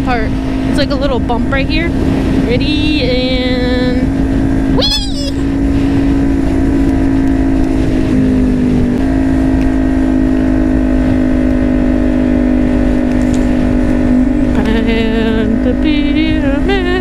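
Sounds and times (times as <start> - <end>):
wind rushing: 0.0 - 15.4
motorcycle engine running: 0.0 - 17.0.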